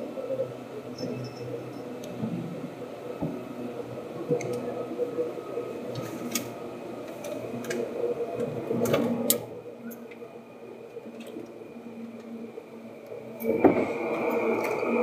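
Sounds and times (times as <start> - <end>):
train carriage hum: 0.0 - 15.0.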